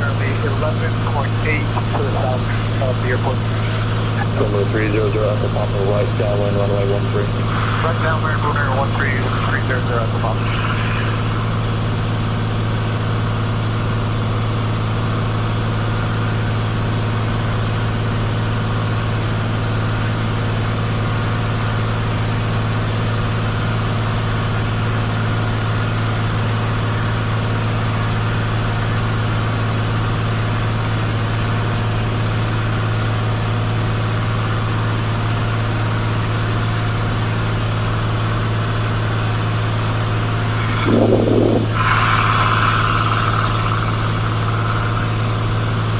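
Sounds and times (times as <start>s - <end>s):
airplane engine and propeller droning: 0.0s - 45.9s.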